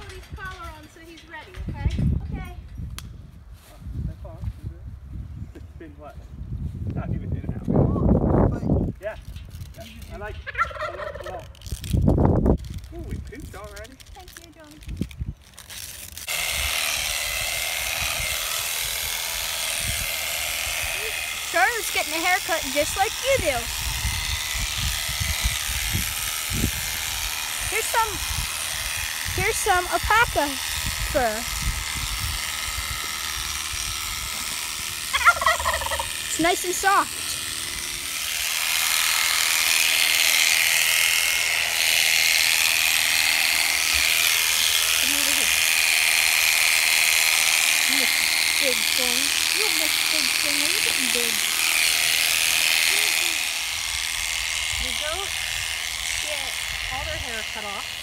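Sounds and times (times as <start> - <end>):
electric shearing clippers running: 11.2 - 58.0.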